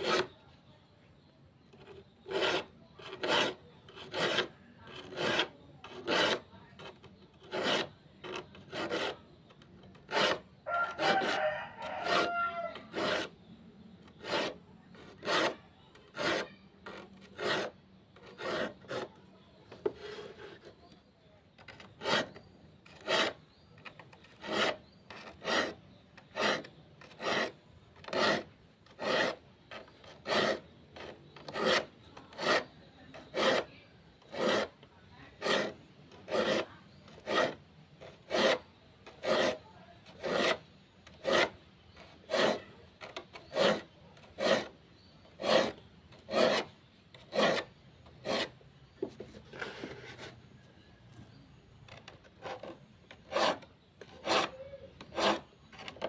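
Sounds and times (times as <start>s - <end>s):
file rasping on saw teeth: 0.0s - 0.4s, 1.8s - 9.3s, 9.9s - 13.4s, 14.0s - 20.8s, 21.6s - 48.6s, 51.9s - 56.0s.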